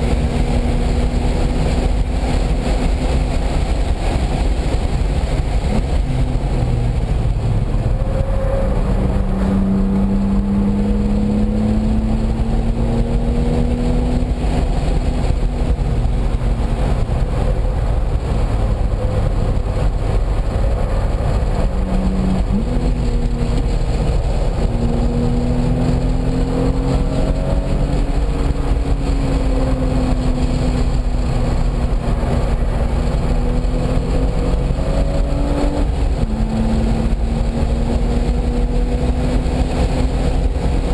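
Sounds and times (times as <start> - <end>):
car engine revving hard: 0.0 - 40.9
wind and road rumble: 0.0 - 40.9.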